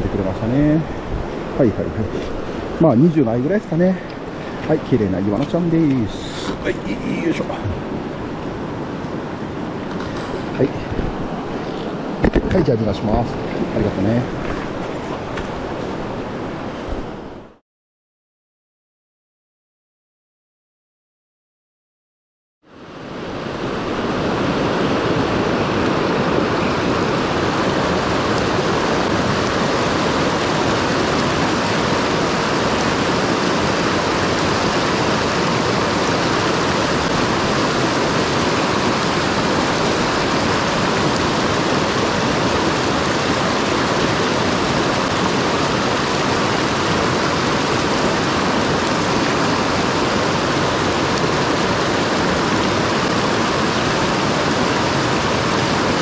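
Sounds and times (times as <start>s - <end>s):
mountain stream rushing over rocks: 0.0s - 17.5s, 22.8s - 56.0s.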